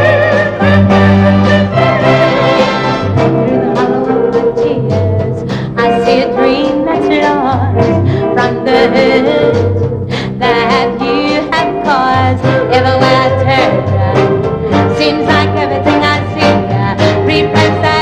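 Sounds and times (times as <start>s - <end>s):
live band playing swing: 0.0s - 18.0s.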